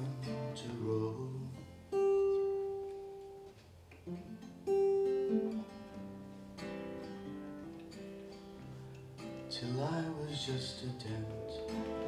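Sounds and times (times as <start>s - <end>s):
acoustic guitar notes: 0.0s - 12.0s
held notes from instruments: 2.0s - 12.0s.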